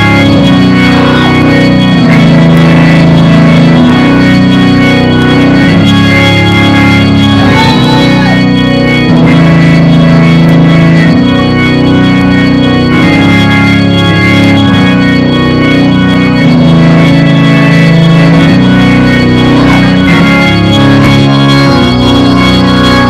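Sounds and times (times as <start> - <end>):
organ chords: 0.0 - 23.0.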